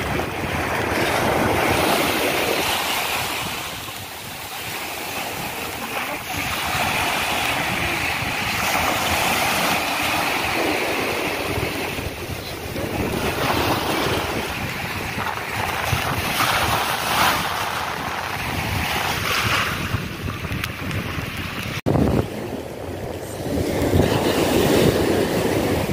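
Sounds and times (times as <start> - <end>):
small waves breaking on beach: 0.0 - 25.9
wind buffeting microphone: 0.0 - 25.9.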